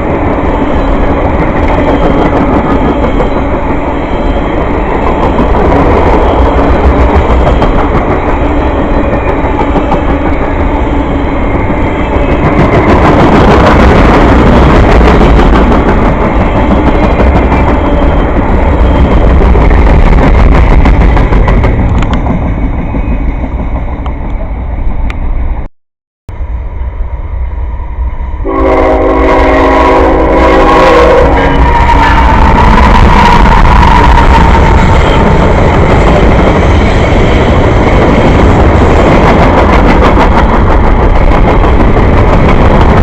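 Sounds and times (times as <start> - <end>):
train wheels rumbling on rails: 0.0 - 25.7, 26.3 - 43.0.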